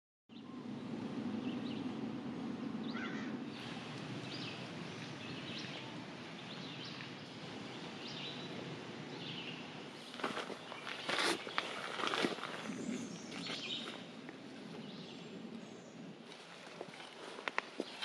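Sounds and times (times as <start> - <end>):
birds chirping: 0.3 - 18.0
low outdoor background hum: 0.3 - 18.0.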